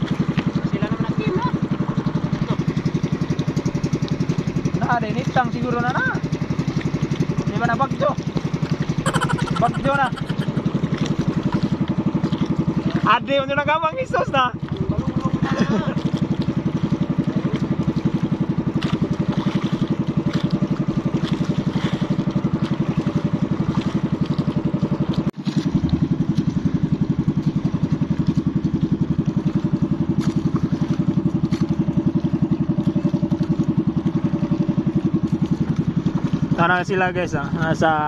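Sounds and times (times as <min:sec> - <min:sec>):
motorboat engine running: 0:00.0 - 0:38.0.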